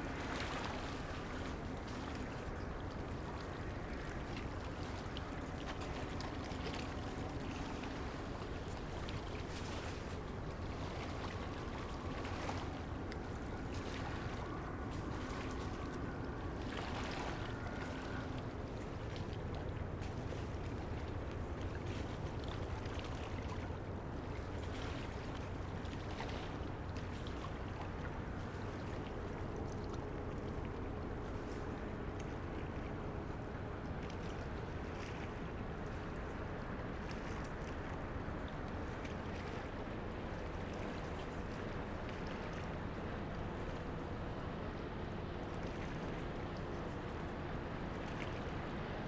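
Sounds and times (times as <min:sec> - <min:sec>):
low ship engine hum: 0:00.0 - 0:49.0
wind and water noise: 0:00.0 - 0:49.0.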